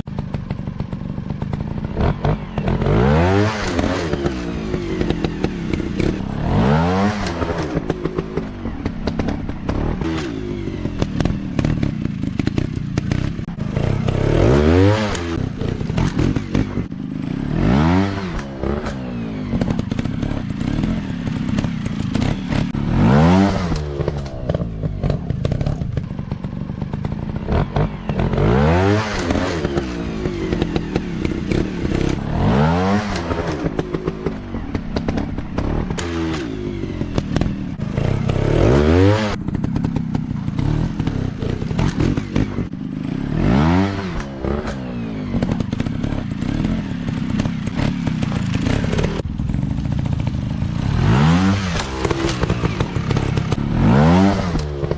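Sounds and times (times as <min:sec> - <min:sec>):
dirt bike engines revving: 0:00.0 - 0:54.9.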